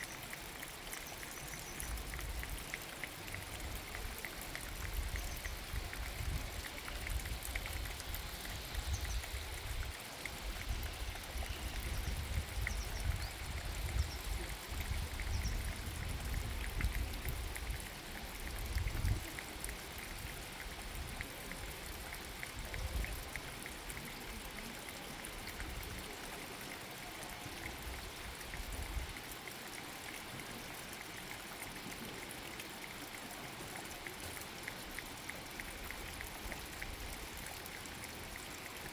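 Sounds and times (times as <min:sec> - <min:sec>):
water dripping on stones: 0:00.0 - 0:38.9.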